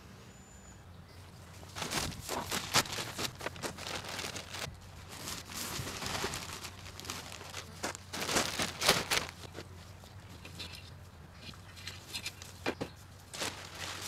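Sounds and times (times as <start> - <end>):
mulch raking crunch and scrape: 1.6 - 10.9, 11.5 - 14.0.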